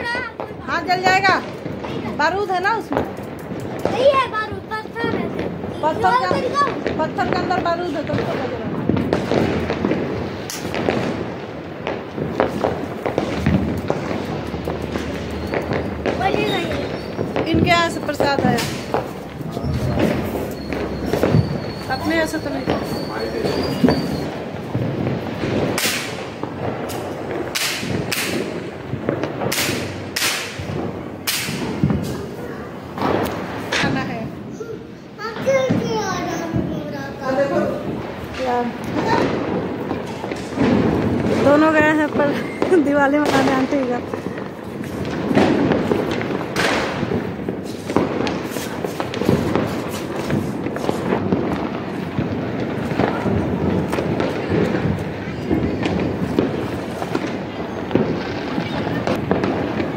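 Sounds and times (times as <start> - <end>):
firecrackers cracking with hiss: 0.0 - 59.9.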